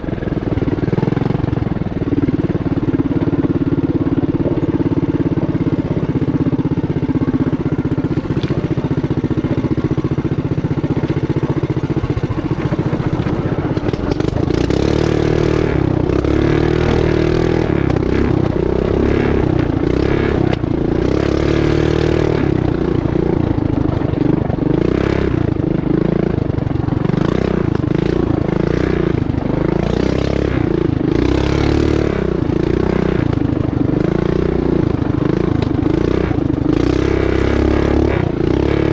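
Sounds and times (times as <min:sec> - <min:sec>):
mini bike engine revving: 0:00.0 - 0:38.9.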